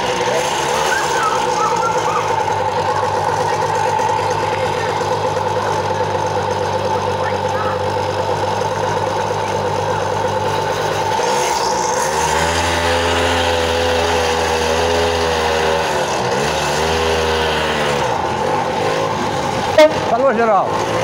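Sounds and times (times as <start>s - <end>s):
small engine idling and revving: 0.0s - 21.0s.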